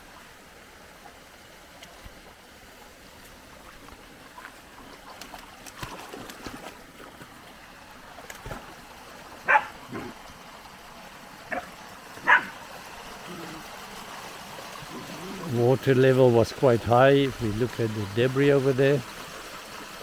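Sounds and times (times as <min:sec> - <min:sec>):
creek rushing: 0:00.0 - 0:20.0.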